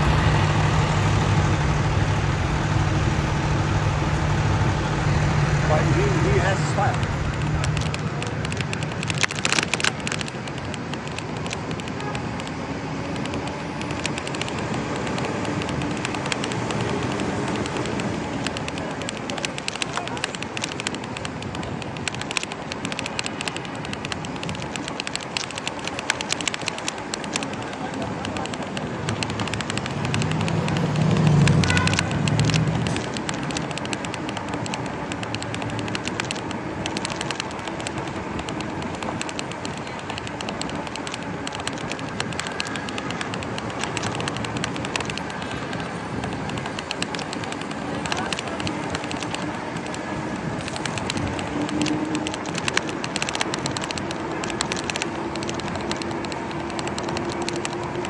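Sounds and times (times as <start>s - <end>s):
car road and engine noise: 0.0s - 58.0s
small clicks and crackles: 0.0s - 58.0s.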